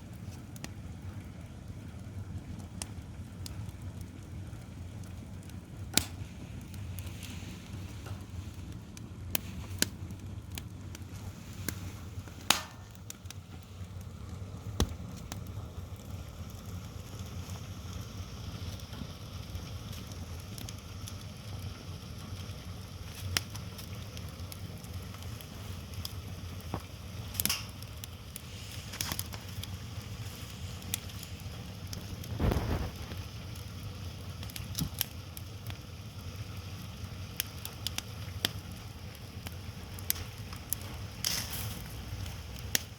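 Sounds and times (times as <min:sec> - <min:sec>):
fire crackles and pops: 0:00.0 - 0:42.9
fire rumble and hiss: 0:00.0 - 0:42.9.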